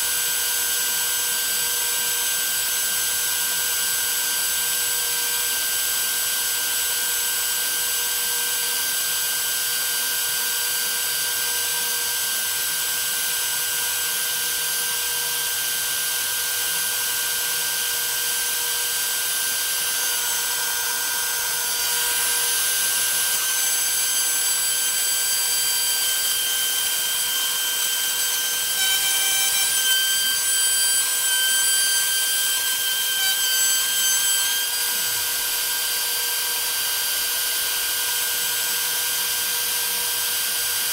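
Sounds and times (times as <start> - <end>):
router cutting aluminium: 0.0 - 40.9.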